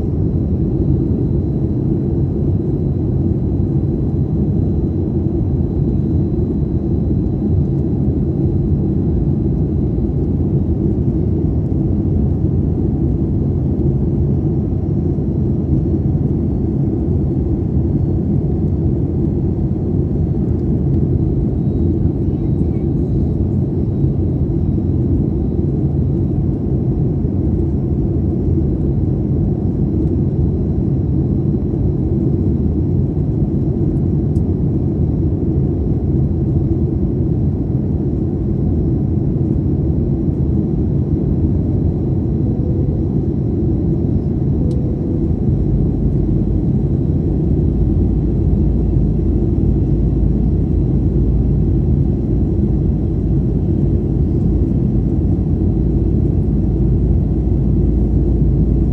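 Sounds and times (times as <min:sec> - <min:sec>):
airplane cabin low rumble: 0:00.0 - 0:58.9.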